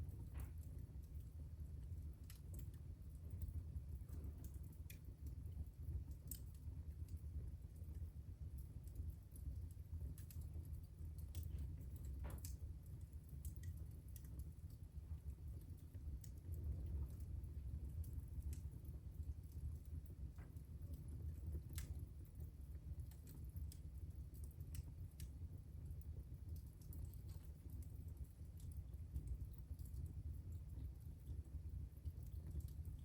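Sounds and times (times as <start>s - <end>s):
fire snaps and pops: 0.0s - 33.0s
wood fire crackling: 0.0s - 33.0s.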